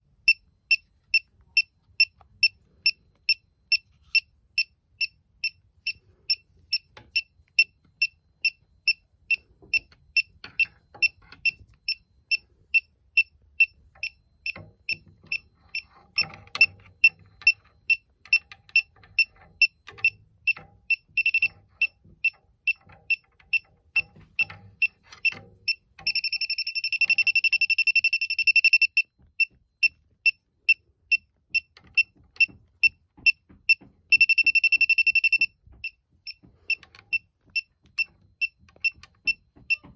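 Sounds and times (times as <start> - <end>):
leak detector beeping: 0.1 - 39.9.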